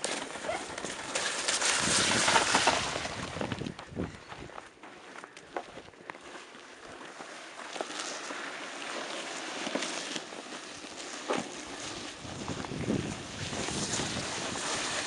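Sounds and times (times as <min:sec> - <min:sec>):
sled scraping over snow: 0:00.0 - 0:04.0, 0:06.9 - 0:15.0
snow crackling and crunching: 0:00.0 - 0:15.0.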